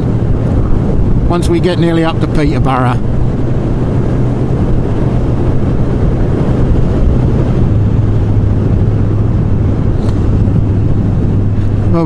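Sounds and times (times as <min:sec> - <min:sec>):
motorcycle engine hum: 0:00.0 - 0:12.0
wind and road noise: 0:00.0 - 0:12.0.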